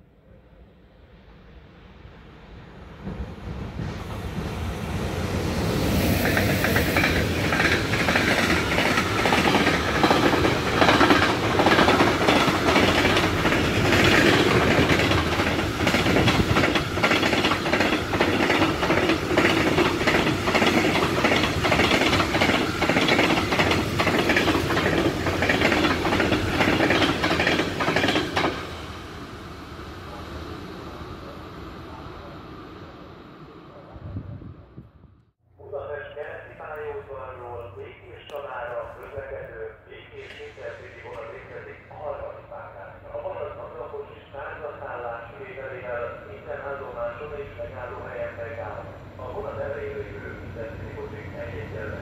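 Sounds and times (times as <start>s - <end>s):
freight train rumble: 0.0s - 52.0s.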